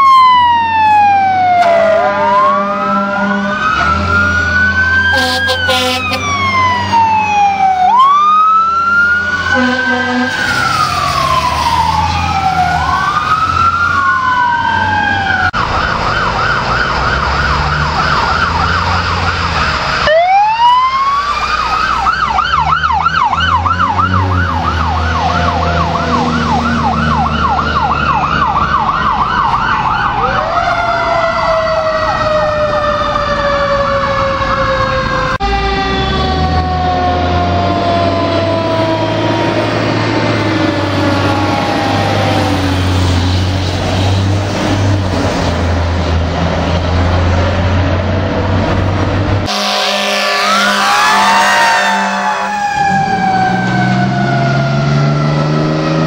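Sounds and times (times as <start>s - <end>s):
fire truck sirens wailing and yelping: 0.0s - 56.0s.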